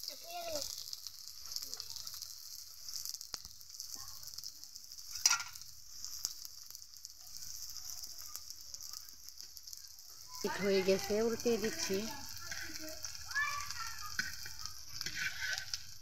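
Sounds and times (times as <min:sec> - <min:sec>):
leaves frying in oil: 0:00.0 - 0:16.0.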